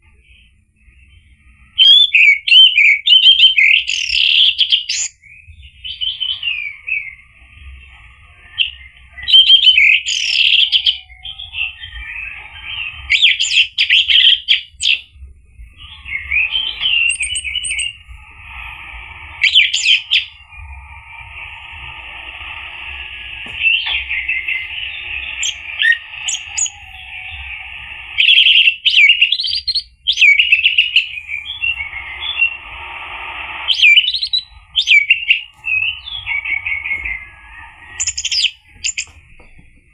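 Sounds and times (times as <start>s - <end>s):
thrush singing: 5.7s - 39.9s.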